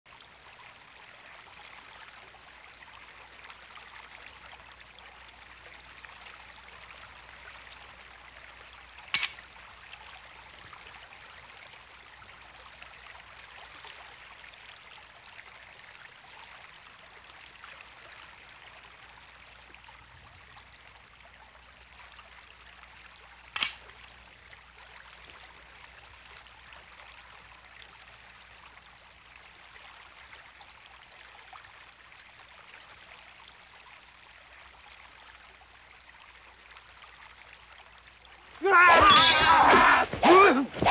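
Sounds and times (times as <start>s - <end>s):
stream running over stones: 0.1s - 40.9s.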